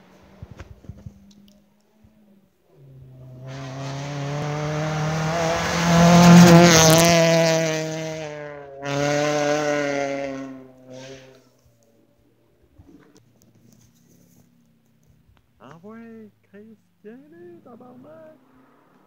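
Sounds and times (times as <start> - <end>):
rally car engine passing: 0.0 - 19.0.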